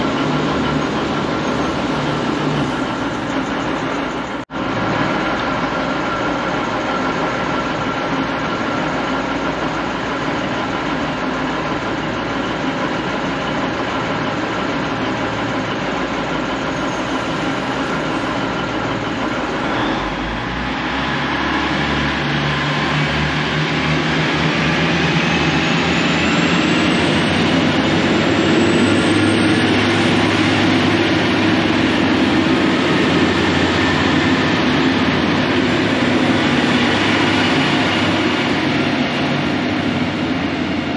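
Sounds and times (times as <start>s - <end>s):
diesel train engines running: 0.0s - 40.9s.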